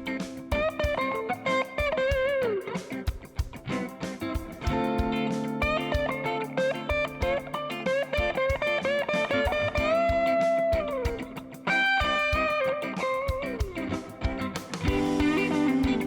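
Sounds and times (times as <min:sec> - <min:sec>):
lead guitar over steady beat: 0:00.0 - 0:16.0.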